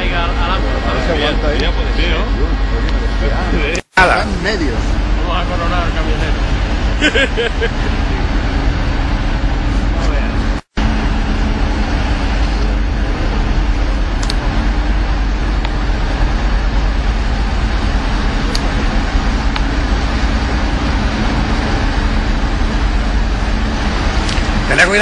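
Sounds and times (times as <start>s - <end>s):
ferry engines rumbling: 0.0s - 25.0s.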